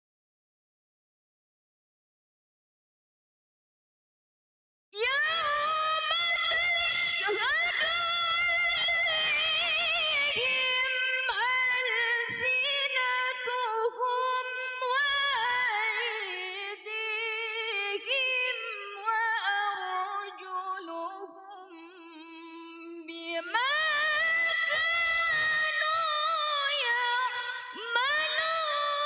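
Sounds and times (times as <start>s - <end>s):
woman reciting in melodic style: 5.0s - 29.0s.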